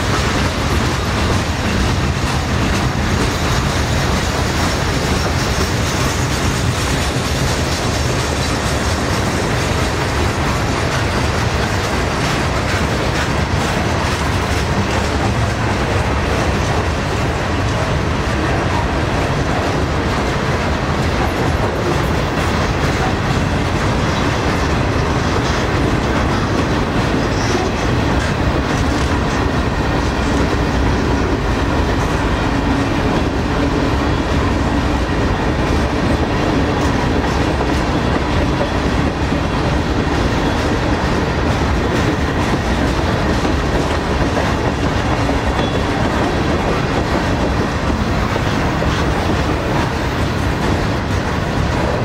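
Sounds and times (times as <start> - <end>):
freight train rolling past: 0.0 - 52.0.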